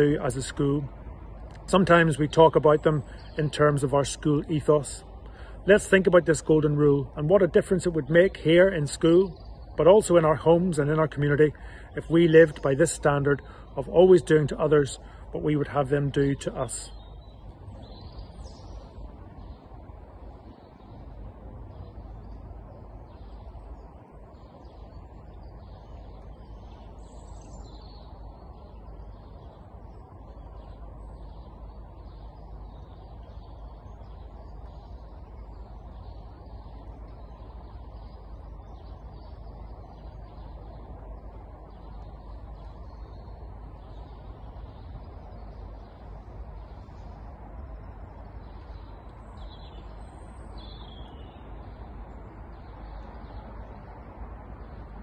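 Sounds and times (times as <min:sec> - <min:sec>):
low background rumble: 0:00.0 - 0:55.0
small birds chirping: 0:00.0 - 0:55.0.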